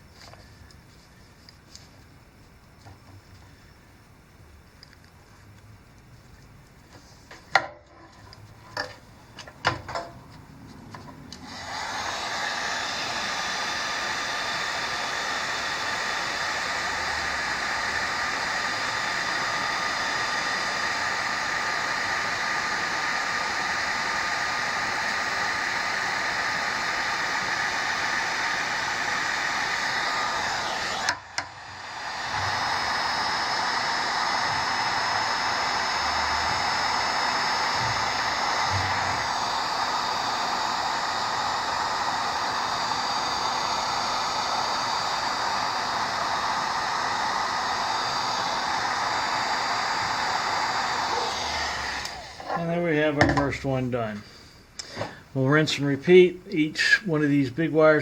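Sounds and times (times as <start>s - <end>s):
heat gun blowing: 7.0s - 55.4s.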